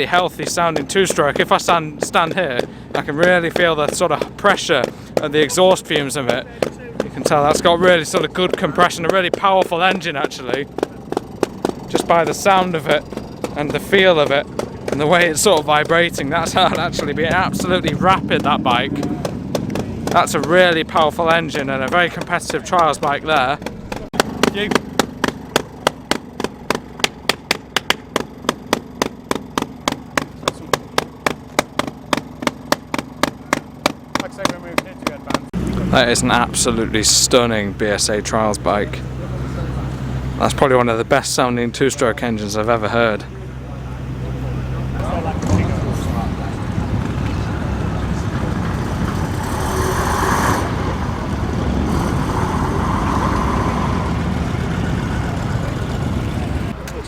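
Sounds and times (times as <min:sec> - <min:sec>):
motorbike engine idling: 0:00.0 - 0:57.0.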